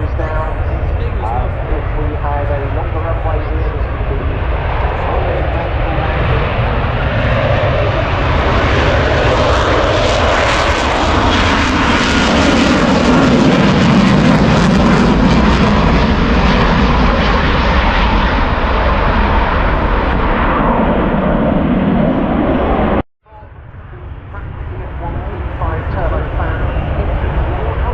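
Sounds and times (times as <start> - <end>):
jet aircraft roaring past: 0.0 - 27.9.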